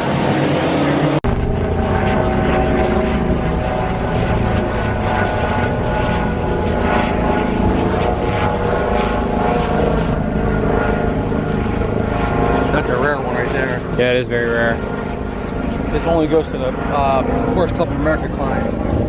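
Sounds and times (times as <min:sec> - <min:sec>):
loud engine drone: 0:00.0 - 0:19.0.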